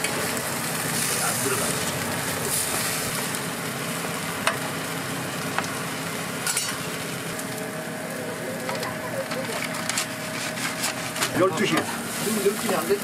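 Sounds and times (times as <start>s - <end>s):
toast sizzling on griddle: 0.0s - 13.0s.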